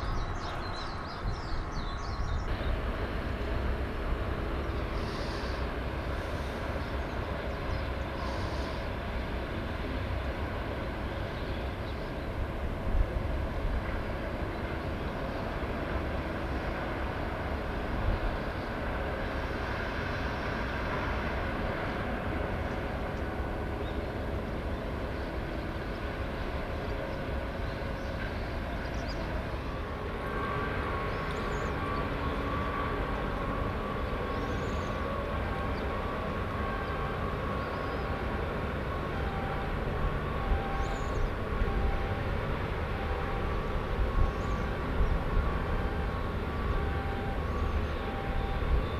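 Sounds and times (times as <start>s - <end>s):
faint humming tones: 0.0s - 48.9s
machinery low rumble: 0.0s - 48.9s
steady higher hum: 0.0s - 48.9s.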